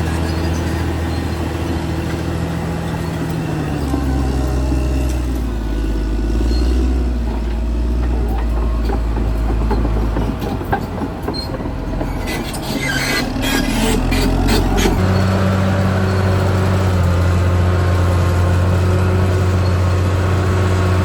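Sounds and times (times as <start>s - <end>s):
steel tracks clanking and squealing: 0.0s - 17.1s
bulldozer diesel engine droning: 0.0s - 21.0s.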